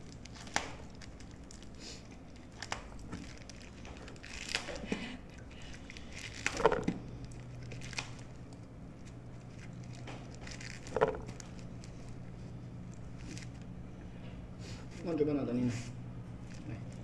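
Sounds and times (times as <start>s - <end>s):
crunching and chewing food: 0.0s - 14.1s, 16.2s - 17.0s.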